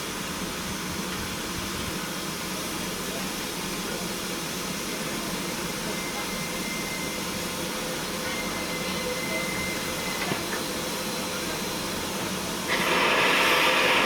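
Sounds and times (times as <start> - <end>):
loud hiss of steam: 0.0 - 14.0
steam locomotive hissing: 0.0 - 14.0.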